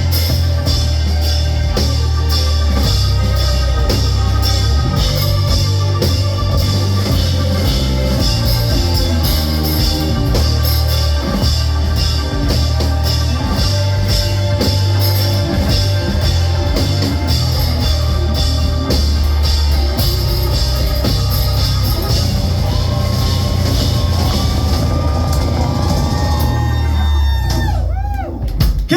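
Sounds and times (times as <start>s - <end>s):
bass guitar: 0.0s - 28.9s
drum kit: 0.0s - 28.9s
electric guitar: 0.0s - 28.9s.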